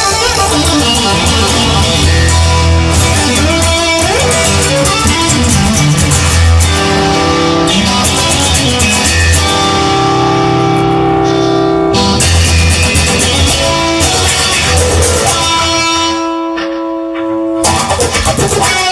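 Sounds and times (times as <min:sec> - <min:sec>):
instrumental band music: 0:00.0 - 0:16.9.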